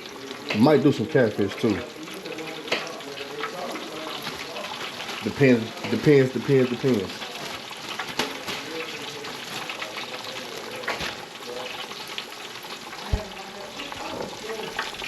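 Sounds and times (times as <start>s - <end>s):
fish frying in hot grease: 0.0s - 15.0s.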